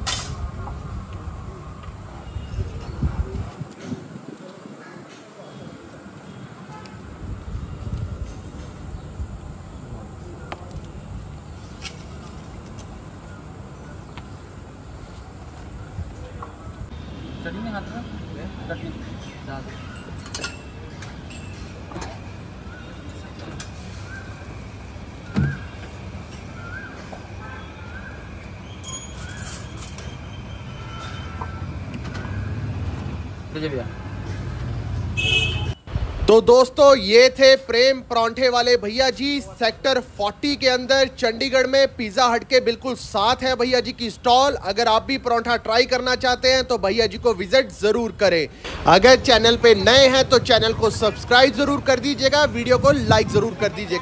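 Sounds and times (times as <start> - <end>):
low traffic rumble: 0.0 - 54.0.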